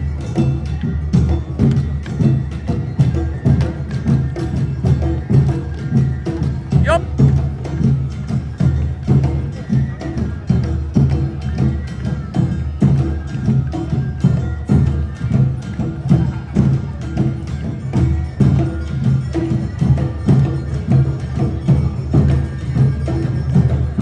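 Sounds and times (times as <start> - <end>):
drums: 0.0 - 24.0.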